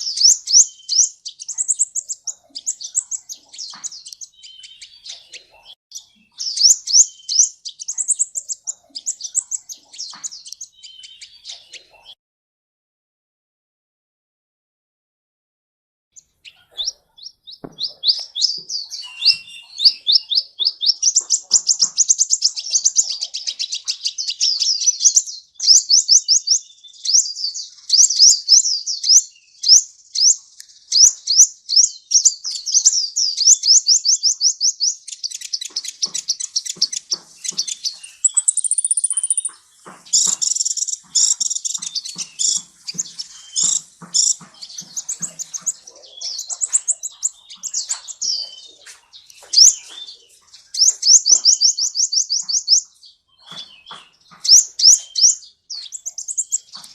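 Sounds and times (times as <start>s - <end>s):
sunbird singing fast trills: 0.0s - 12.2s, 16.2s - 56.9s.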